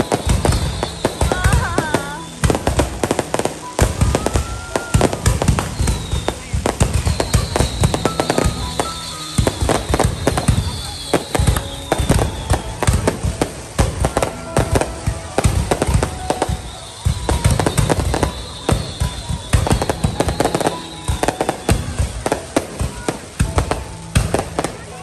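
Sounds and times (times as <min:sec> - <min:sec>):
fireworks bangs and crackles: 0:00.0 - 0:25.0
music playing: 0:00.0 - 0:25.0.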